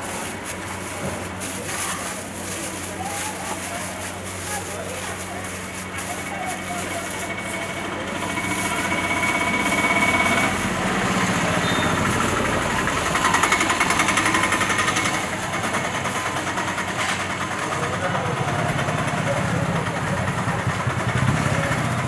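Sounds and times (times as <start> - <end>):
small engine putter: 0.0 - 22.0.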